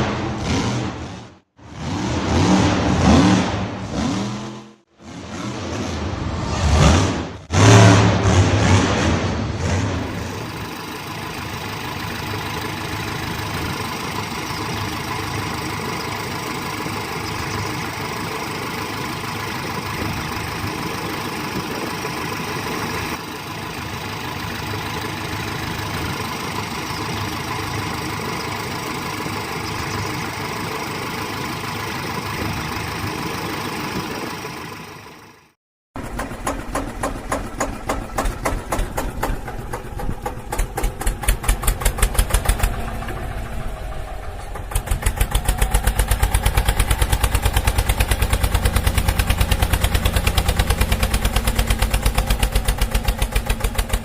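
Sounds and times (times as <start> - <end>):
truck engine idling: 9.6 - 54.0.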